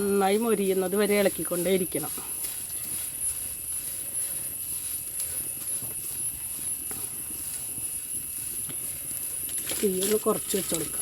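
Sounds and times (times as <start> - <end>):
ladle scraping leaves in a pan: 0.0 - 11.0.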